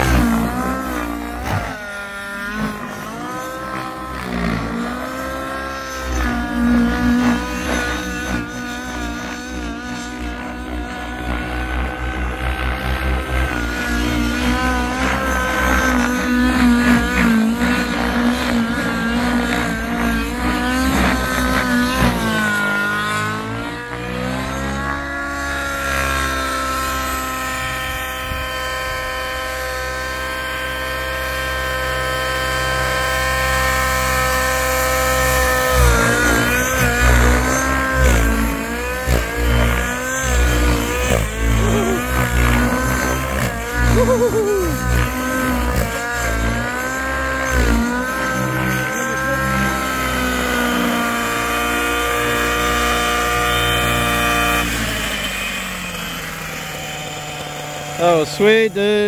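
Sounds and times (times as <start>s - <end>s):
model helicopter engine and rotor: 0.0s - 59.0s.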